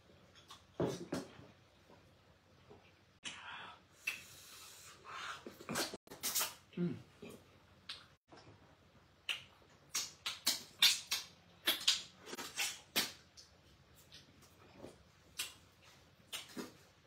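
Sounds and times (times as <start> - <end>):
people eating with mouth noises: 0.0 - 17.0.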